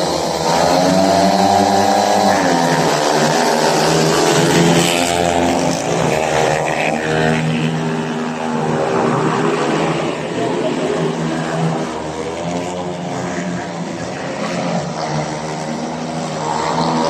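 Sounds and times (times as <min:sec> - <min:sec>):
racing motorcycles at full throttle: 0:00.0 - 0:17.0.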